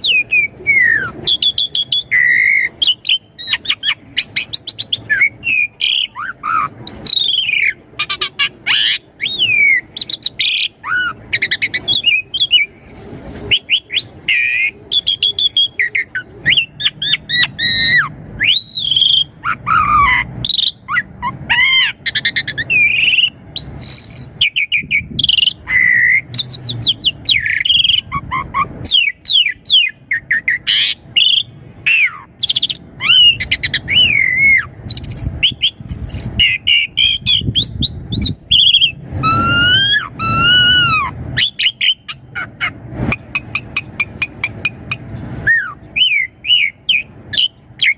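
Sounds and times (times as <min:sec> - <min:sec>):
bird singing whistles: 0:00.0 - 0:42.2, 0:43.3 - 0:47.9.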